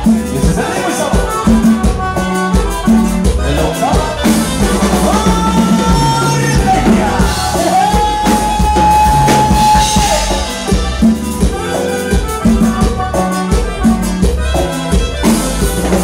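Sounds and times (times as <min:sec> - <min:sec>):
live band dance music: 0:00.0 - 0:16.0.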